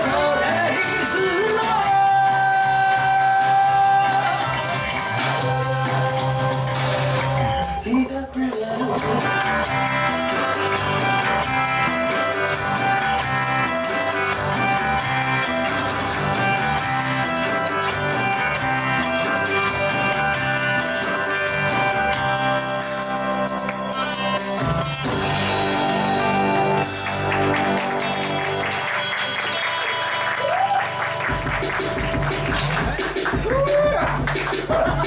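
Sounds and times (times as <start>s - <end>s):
bass guitar: 0.0s - 35.0s
electric guitar: 0.0s - 35.0s.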